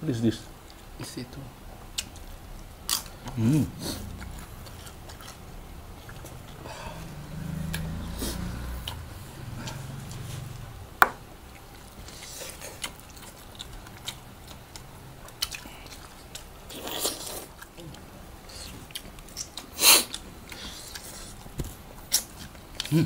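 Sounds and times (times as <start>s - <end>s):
wet chewing and mouth noises: 1.9s - 10.6s, 11.4s - 23.0s.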